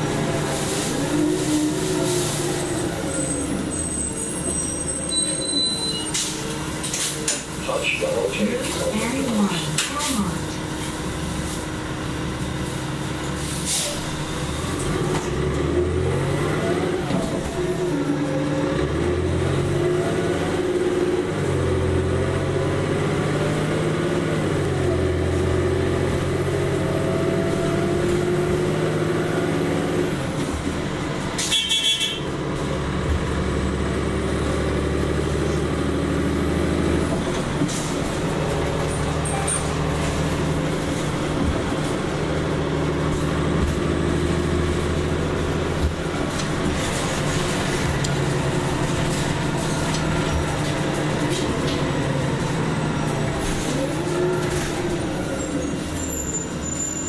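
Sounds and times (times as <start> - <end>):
bus engine under way: 0.0 - 57.0.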